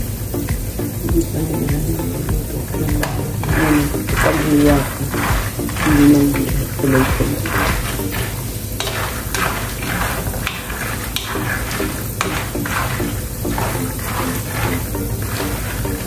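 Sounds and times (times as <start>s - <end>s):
oil sizzling in a pan: 0.0s - 16.0s
peanuts rustling over a pan: 1.1s - 16.0s.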